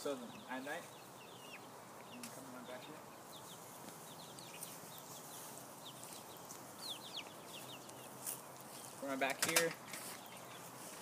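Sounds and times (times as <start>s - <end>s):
chickens chirping and clucking: 0.0s - 11.0s
steady background hiss: 0.0s - 11.0s.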